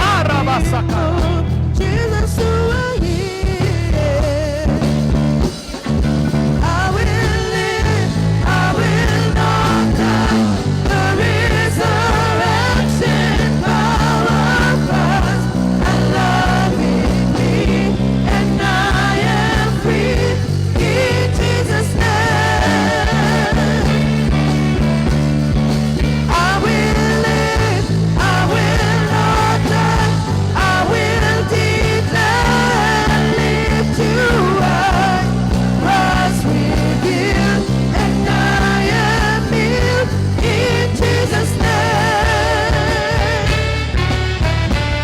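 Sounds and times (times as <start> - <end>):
voices singing: 0.0 - 44.6
band playing sustained chords: 5.0 - 45.0.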